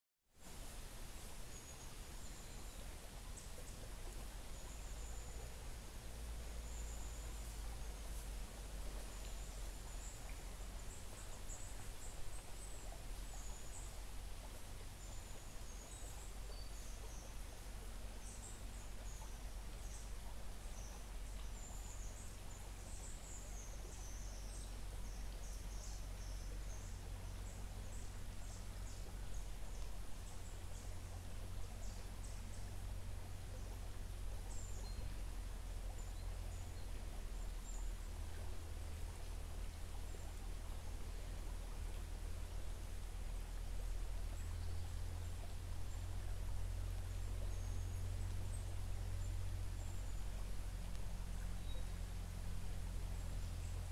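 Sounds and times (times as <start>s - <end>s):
stream flowing gently: 0.3s - 53.9s
low steady rumble: 0.4s - 53.9s.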